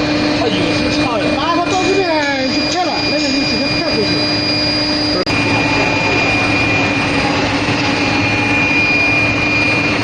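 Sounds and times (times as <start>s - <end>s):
high machine whine: 0.0s - 10.0s
loud machine noise: 0.0s - 10.0s.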